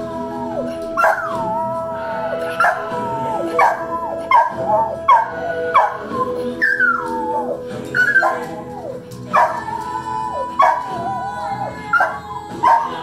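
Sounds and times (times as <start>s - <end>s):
dog howling: 0.0s - 13.0s
tv theme music: 0.0s - 13.0s.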